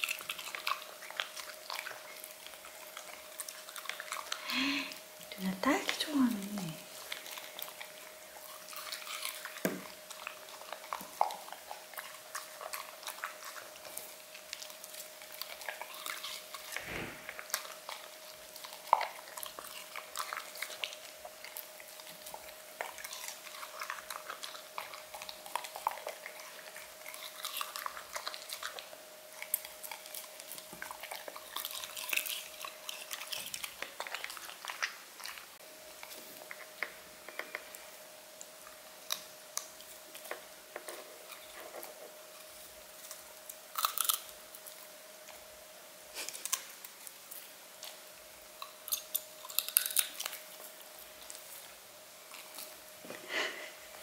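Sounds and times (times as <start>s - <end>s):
dog chewing and licking: 0.0s - 45.5s, 46.2s - 54.0s.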